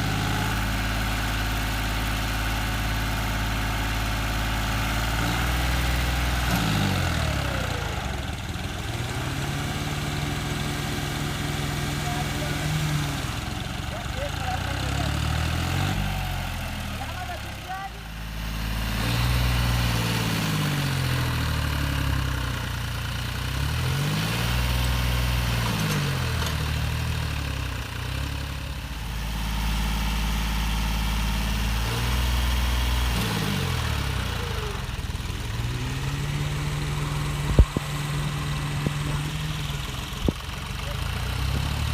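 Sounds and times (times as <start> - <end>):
heavy vehicle engines revving: 0.0 - 41.9.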